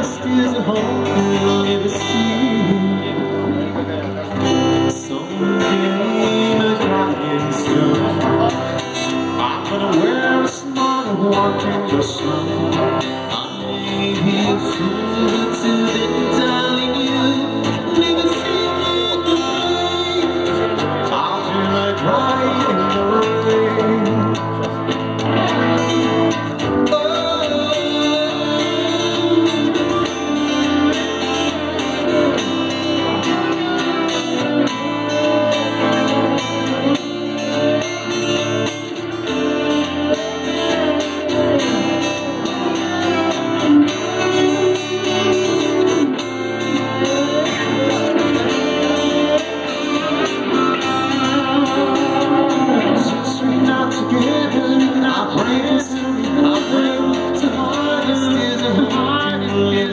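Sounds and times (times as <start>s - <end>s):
guitar: 0.0s - 59.9s
live band playing pop song: 0.0s - 59.9s
person singing: 0.0s - 59.9s.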